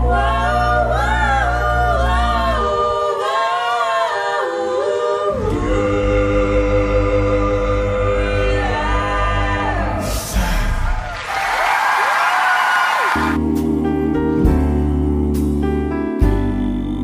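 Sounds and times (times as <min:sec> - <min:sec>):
a cappella group singing in harmony: 0:00.0 - 0:11.5, 0:12.8 - 0:17.0.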